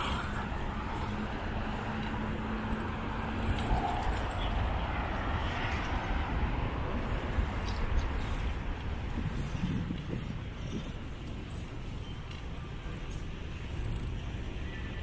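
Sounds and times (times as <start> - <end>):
street traffic passing: 0.0 - 15.0
wind rumble on microphone: 0.0 - 15.0.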